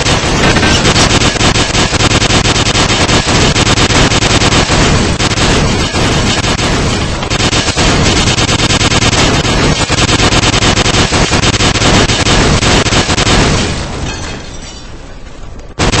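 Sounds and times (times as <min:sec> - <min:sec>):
harsh distorted crackling noise: 0:00.0 - 0:14.0, 0:15.3 - 0:16.0.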